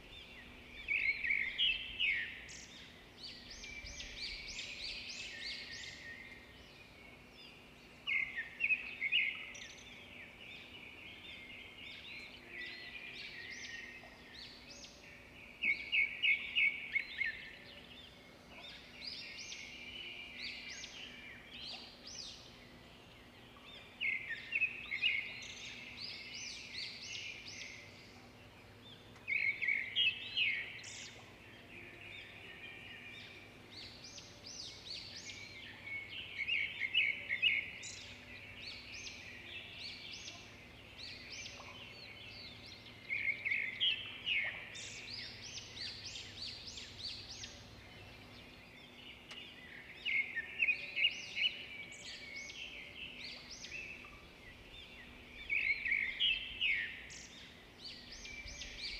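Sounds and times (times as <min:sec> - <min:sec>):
birds chirping and twittering: 0:00.0 - 0:58.9.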